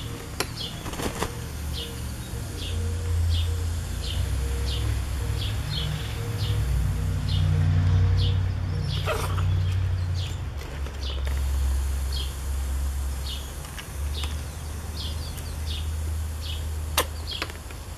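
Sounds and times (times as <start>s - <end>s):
bird chirping: 0.0s - 11.4s, 12.1s - 12.4s, 13.1s - 17.5s.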